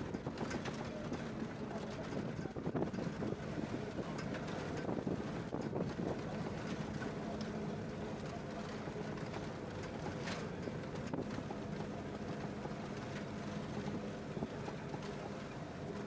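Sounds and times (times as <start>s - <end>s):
bus engine hum and road noise: 0.0s - 16.0s.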